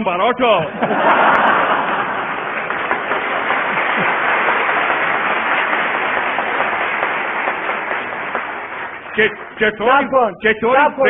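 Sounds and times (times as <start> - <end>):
audience applauding: 0.9 - 10.0.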